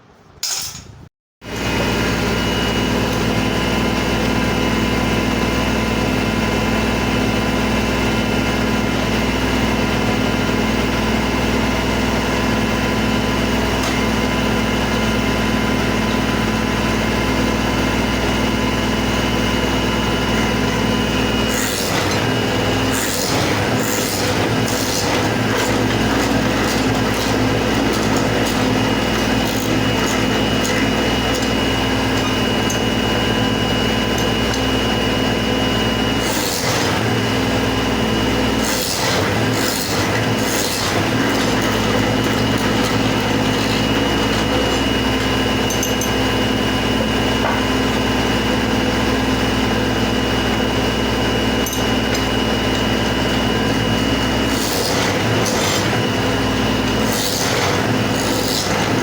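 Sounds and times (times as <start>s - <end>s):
woodworking machine motor hum: 1.4s - 59.0s.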